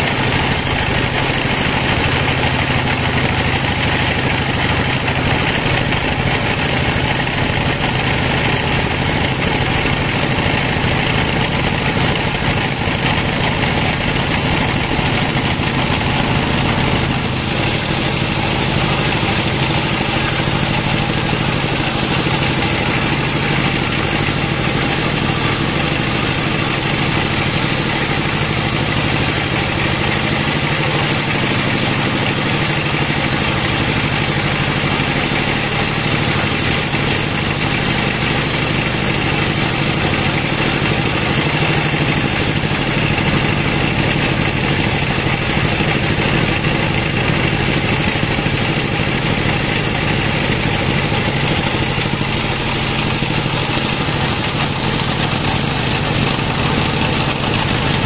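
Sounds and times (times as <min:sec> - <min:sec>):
band saw mill drone: 0:00.0 - 0:58.0.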